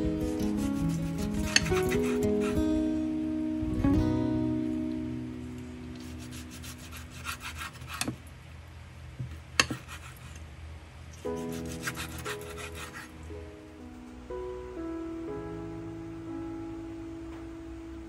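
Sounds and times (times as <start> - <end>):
soft background music: 0.0 - 7.8, 11.2 - 18.0.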